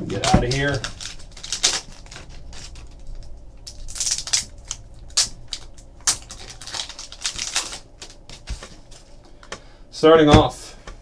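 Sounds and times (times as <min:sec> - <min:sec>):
plastic wrapping crinkling and tearing: 0:00.0 - 0:09.2.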